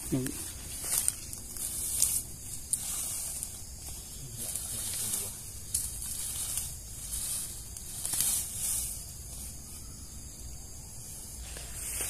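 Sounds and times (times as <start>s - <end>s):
leaves and undergrowth rustling: 0.0s - 12.0s
steady high hiss: 0.0s - 12.0s.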